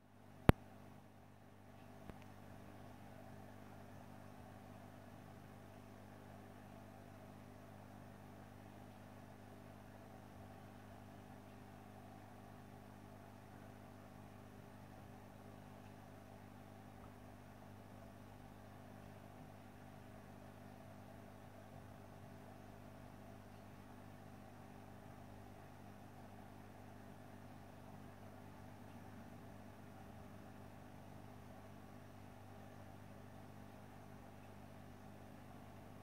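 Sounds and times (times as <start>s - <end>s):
aquarium filter pump humming: 0.0s - 36.0s.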